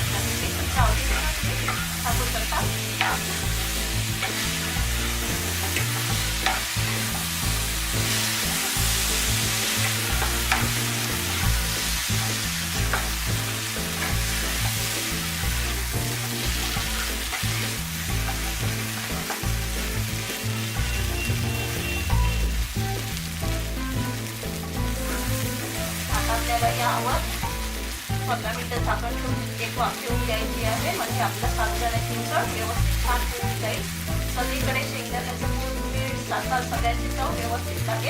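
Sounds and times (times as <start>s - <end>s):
background music: 0.0s - 38.0s
food sizzling in a pan: 0.0s - 38.0s.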